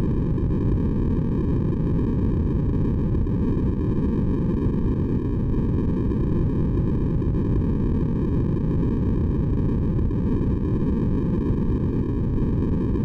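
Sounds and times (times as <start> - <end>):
deep white noise: 0.0 - 13.0.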